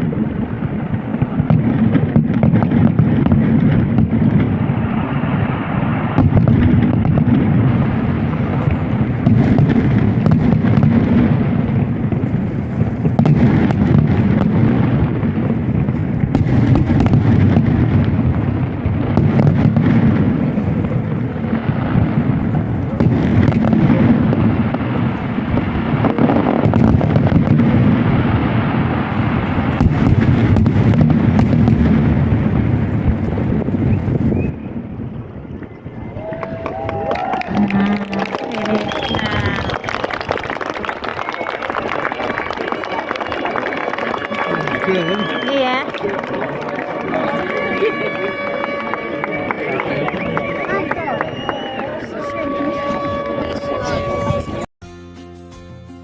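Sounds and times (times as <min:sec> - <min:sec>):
fireworks booming: 0:00.0 - 0:54.7
fireworks crackling and popping: 0:00.0 - 0:54.7.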